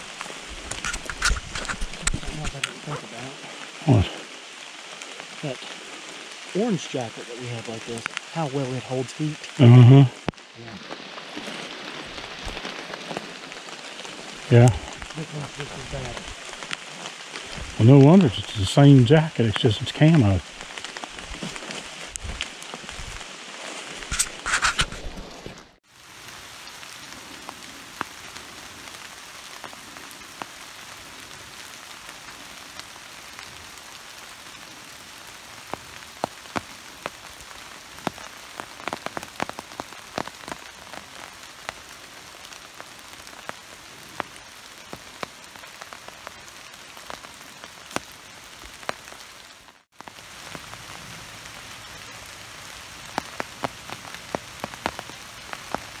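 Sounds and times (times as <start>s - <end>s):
raindrops ticking: 0.0s - 25.6s, 26.3s - 56.0s
steady rain on a forest: 0.0s - 56.0s.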